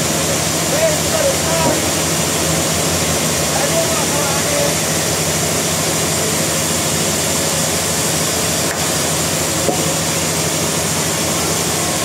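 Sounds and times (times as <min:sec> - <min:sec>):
low engine-like hum: 0:00.0 - 0:12.0
sawmill machinery drone: 0:00.0 - 0:12.0.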